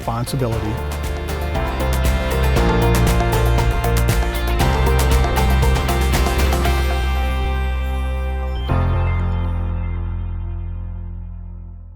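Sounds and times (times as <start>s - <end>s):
background music chord: 0.0s - 11.9s.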